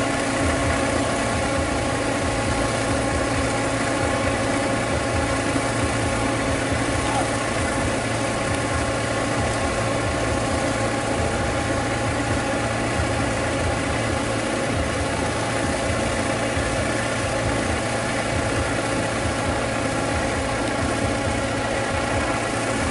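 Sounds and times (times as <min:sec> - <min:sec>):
mud and water splashing: 0:00.0 - 0:22.9
tractor engine under load: 0:00.0 - 0:22.9.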